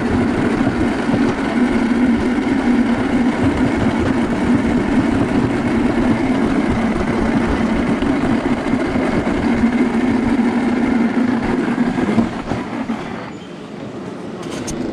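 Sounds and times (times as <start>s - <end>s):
sled rumbling in metal chute: 0.0s - 13.4s.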